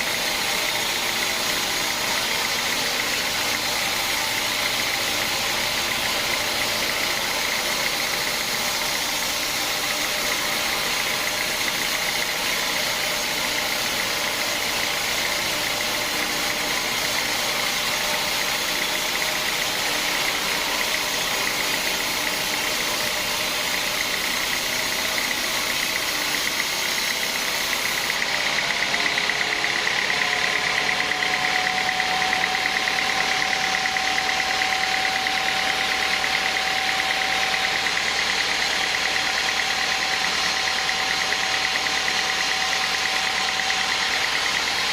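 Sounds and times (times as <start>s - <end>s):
sawmill machinery whining: 0.0s - 44.9s.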